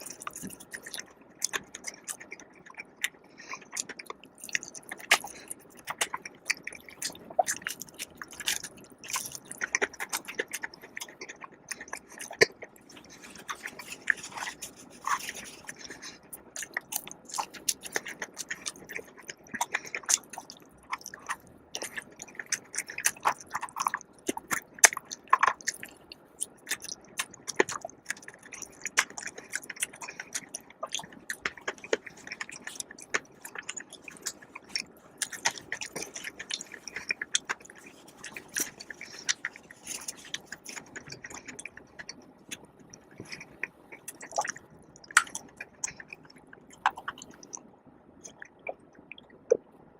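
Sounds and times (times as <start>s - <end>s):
chewing and crunching food: 0.0s - 49.9s.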